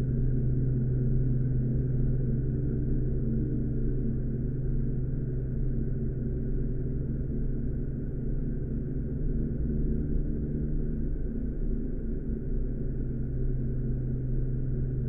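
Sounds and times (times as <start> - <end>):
low droning hum: 0.0 - 15.0.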